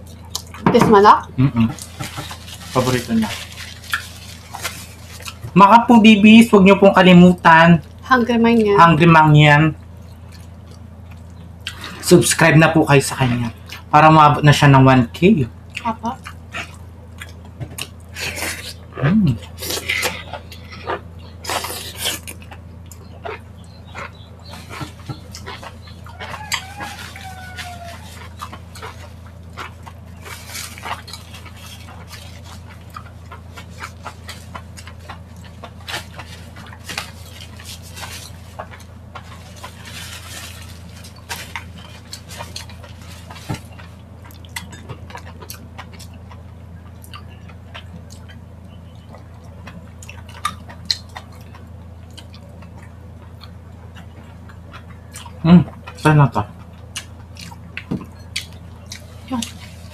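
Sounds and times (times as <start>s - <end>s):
wet chewing and lip smacking: 0.0s - 0.6s, 1.7s - 5.5s, 9.8s - 12.1s, 15.6s - 59.9s
steady low hum: 0.0s - 59.9s.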